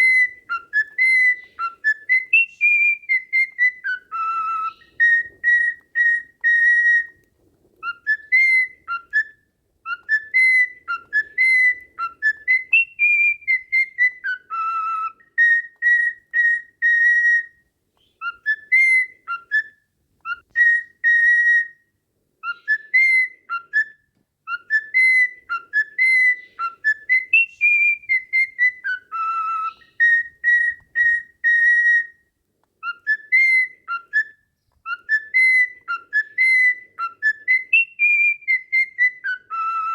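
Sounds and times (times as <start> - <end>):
whistled tune: 0.0 - 7.2, 7.8 - 39.9.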